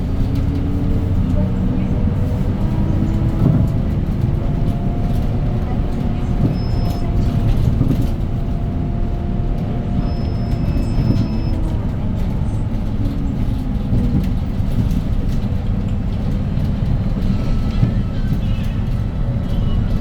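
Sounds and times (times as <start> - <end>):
bus engine rumbling: 0.0 - 20.0.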